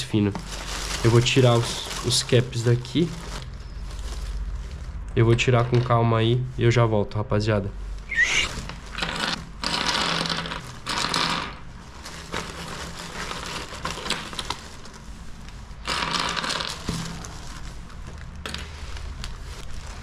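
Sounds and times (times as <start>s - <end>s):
plastic bag rustling: 0.0s - 6.8s, 7.8s - 20.0s.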